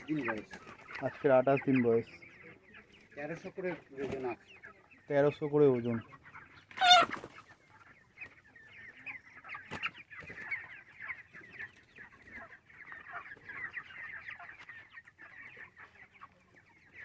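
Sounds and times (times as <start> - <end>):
chickens peeping and clucking: 0.0 - 17.0.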